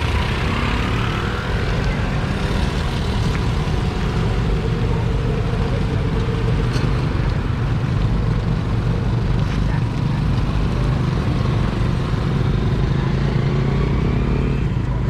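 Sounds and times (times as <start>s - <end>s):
low engine rumble: 0.0s - 13.4s.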